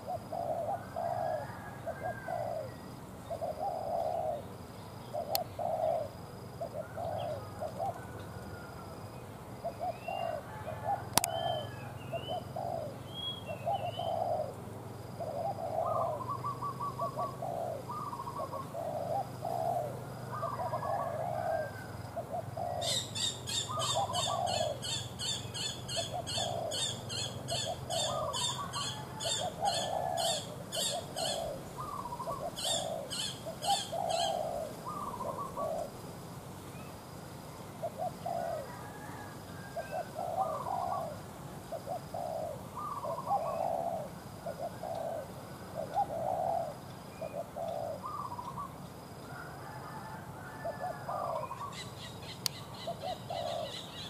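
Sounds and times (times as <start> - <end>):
doves cooing: 0.0 - 36.0, 37.5 - 54.0.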